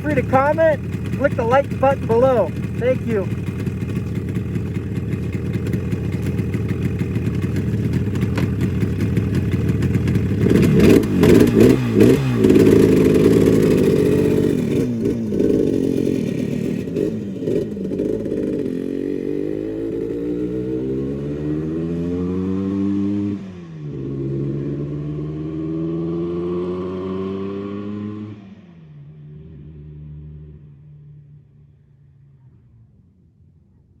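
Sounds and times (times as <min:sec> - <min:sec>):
two-stroke motorcycle engine revving: 0:00.0 - 0:28.4.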